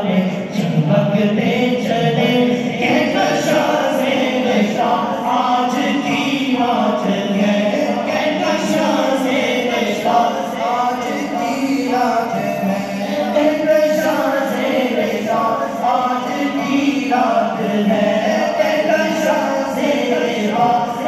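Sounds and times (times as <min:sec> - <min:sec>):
men chanting: 0:00.0 - 0:21.0.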